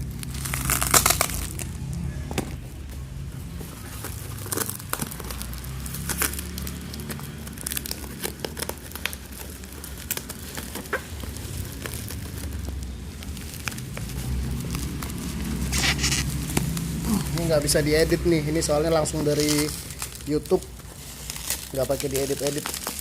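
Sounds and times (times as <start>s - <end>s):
packaging crinkling and tearing: 0.0s - 23.0s.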